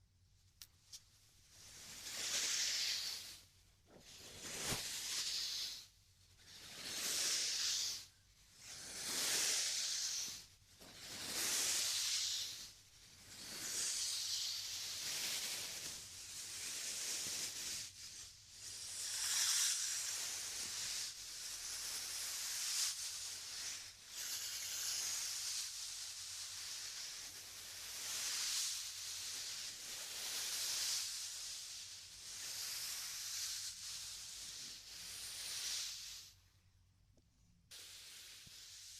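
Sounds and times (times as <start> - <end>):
air blowing into microphone: 0.6 - 36.5, 37.6 - 38.9.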